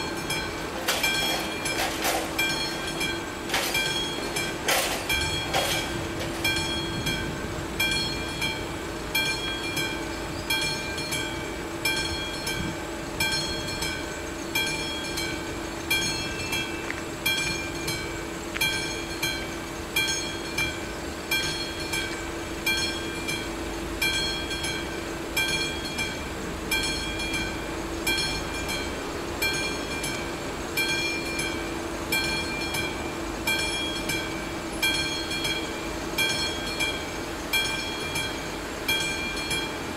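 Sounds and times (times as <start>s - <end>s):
steady low hum: 0.0s - 39.9s
warning bell ringing: 0.0s - 39.9s.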